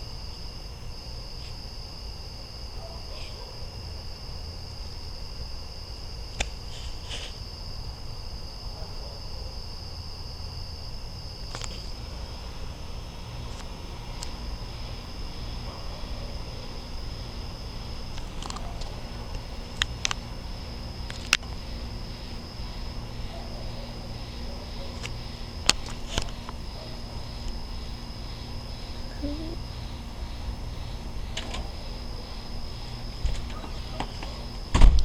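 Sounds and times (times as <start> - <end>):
night insects trilling: 0.0 - 35.0.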